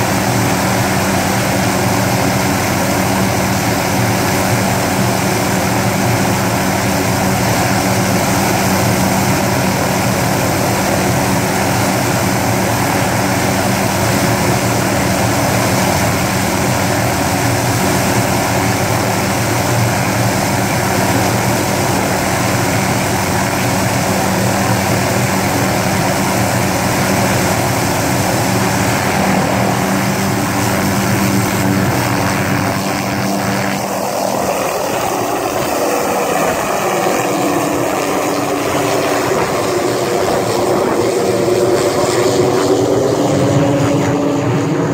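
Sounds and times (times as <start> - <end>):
helicopter rotor running: 0.0 - 44.9.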